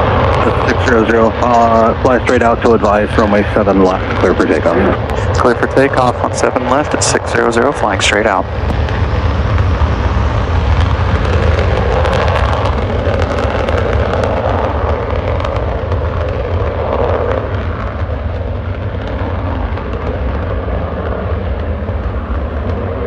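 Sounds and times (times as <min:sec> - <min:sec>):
jet engines rumbling with crackle: 0:00.0 - 0:23.0.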